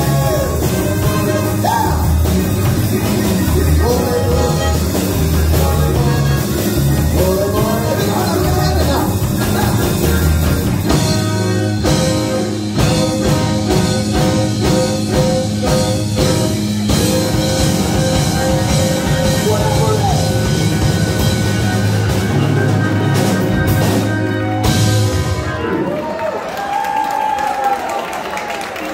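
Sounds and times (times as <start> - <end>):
big band playing: 0.0 - 28.9.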